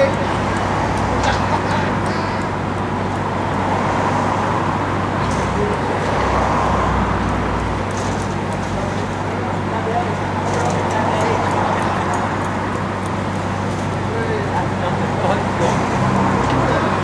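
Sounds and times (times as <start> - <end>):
fairground ride mechanical hum: 0.0 - 17.0.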